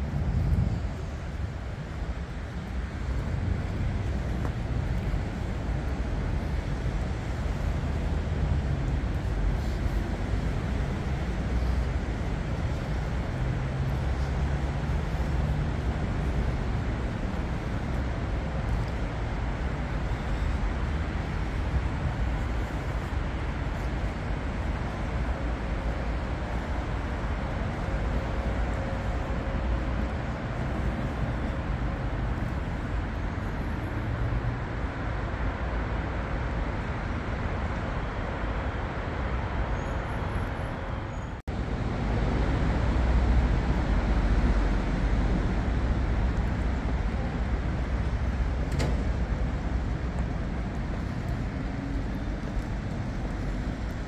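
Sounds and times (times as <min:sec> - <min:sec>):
low traffic rumble: 0:00.0 - 0:54.0
passing cars and buses: 0:00.0 - 0:54.0.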